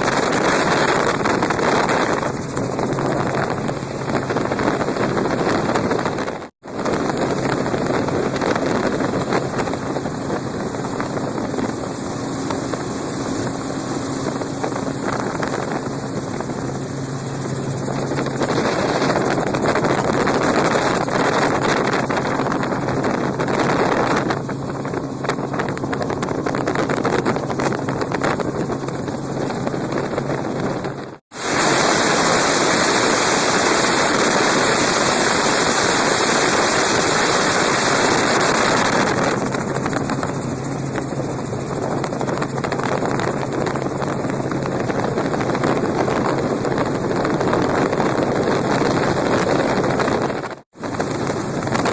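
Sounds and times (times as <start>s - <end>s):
helicopter rotor and engine noise: 0.0s - 51.9s.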